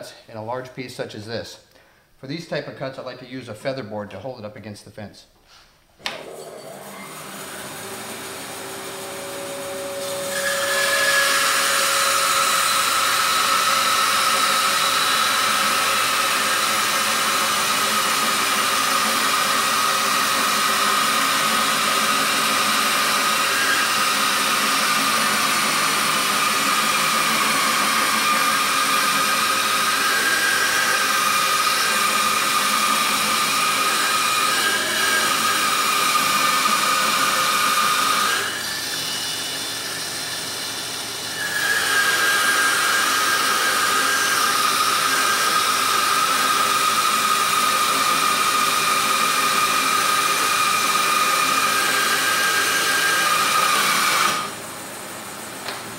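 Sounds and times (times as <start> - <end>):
bandsaw cutting wood: 6.1 - 54.6.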